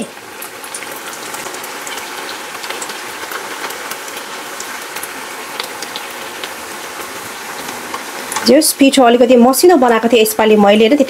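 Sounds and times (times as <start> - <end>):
deep-frying sizzle and crackles: 0.0 - 11.0.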